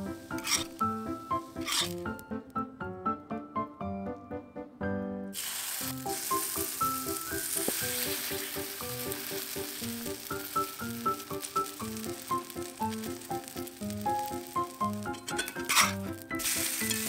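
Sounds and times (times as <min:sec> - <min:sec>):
pancakes sizzling in oil: 0:00.0 - 0:02.2, 0:05.4 - 0:17.0
background music: 0:00.0 - 0:17.0.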